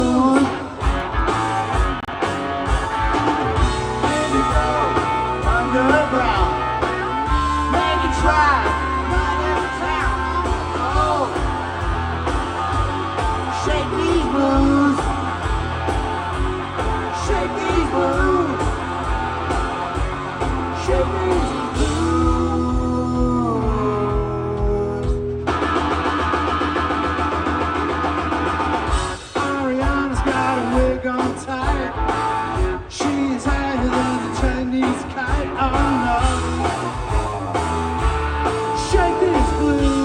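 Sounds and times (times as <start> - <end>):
electric guitar lead bending notes: 0.0 - 30.8, 33.8 - 40.0
bass guitar: 0.0 - 40.0
steady drum beat: 0.0 - 40.0.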